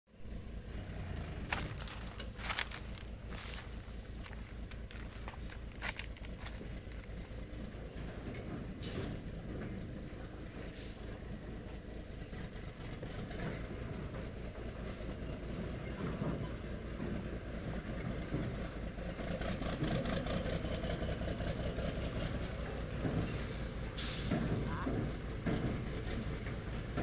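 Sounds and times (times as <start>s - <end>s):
diesel truck engine running: 0.1s - 27.0s.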